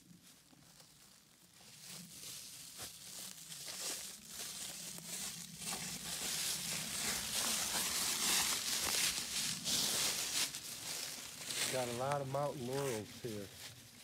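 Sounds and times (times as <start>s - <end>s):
footsteps crunching dry leaves: 0.1s - 14.0s.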